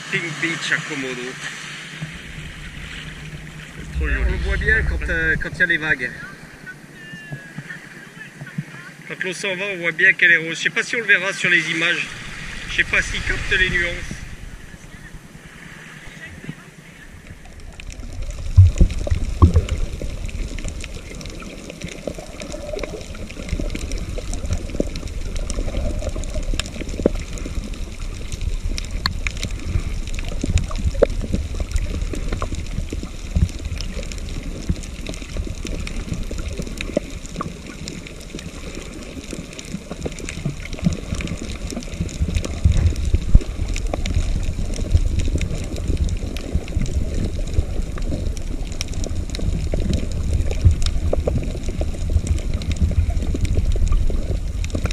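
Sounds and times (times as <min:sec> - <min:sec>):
underwater rumble and sloshing: 0:00.0 - 0:54.9
faint clicks and crackles: 0:01.4 - 0:08.8, 0:14.4 - 0:54.9.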